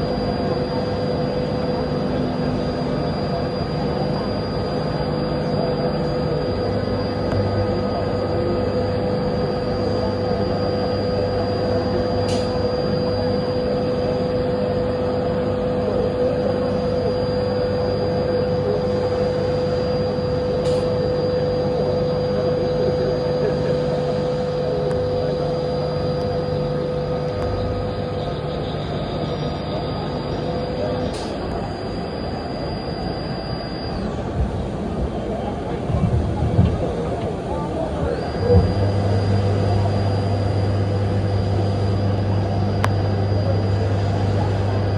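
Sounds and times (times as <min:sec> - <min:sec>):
lathe machine whine: 0:00.0 - 0:44.9.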